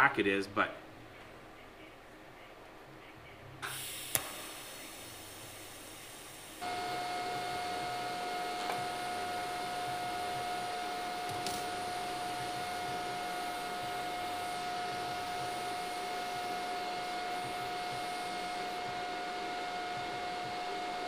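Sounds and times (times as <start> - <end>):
electric fan motor whir: 3.7 - 21.0.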